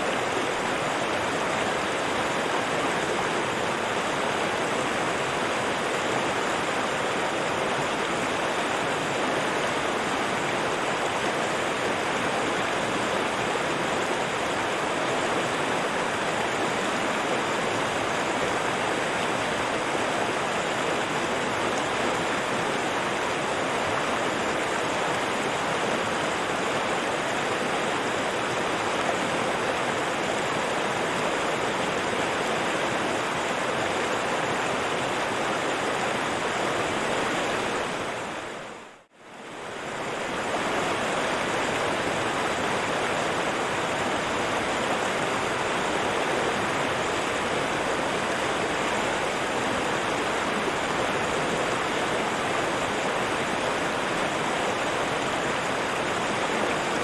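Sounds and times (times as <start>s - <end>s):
flowing river rushing: 0.0s - 57.0s.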